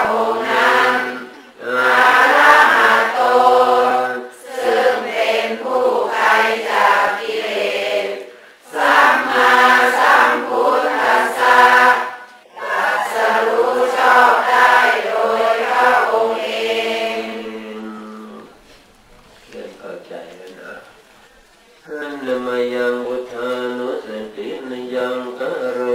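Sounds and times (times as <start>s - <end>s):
melodic chanting: 0.0s - 18.8s, 21.8s - 25.9s.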